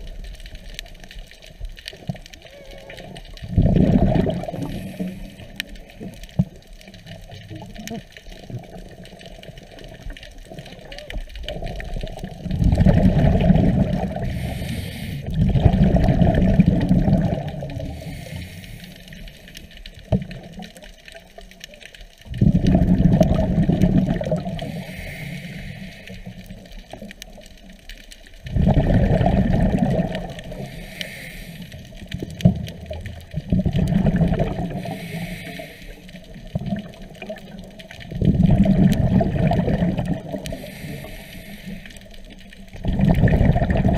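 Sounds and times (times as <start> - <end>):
faint clicks: 0.0 - 15.4, 16.1 - 43.9
underwater exhaled bubbles: 0.0 - 43.9.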